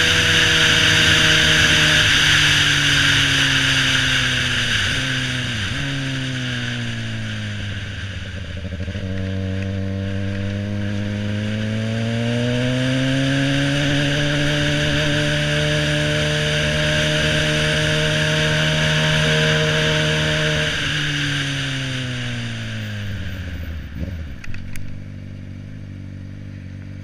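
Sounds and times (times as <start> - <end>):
motorcycle engine while riding: 0.0 - 27.0.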